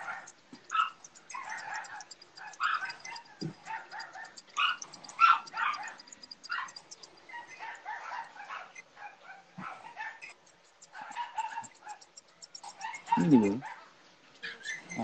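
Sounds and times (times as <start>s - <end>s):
fast high clicking: 0.0s - 8.8s, 9.6s - 15.0s
dog barking: 0.0s - 15.0s.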